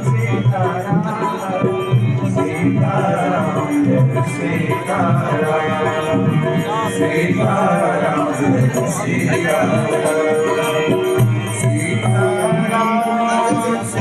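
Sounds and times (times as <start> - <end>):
instruments and percussion: 0.0 - 14.0
voices singing a chant: 0.0 - 14.0.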